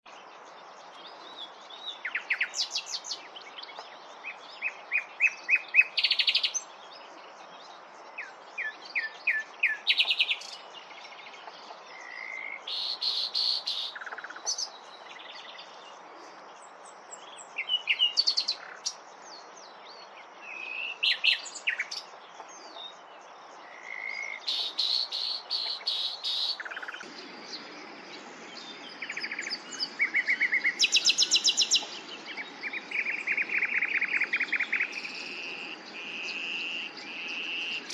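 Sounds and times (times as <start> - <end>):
nightingale singing: 0.1 - 37.9.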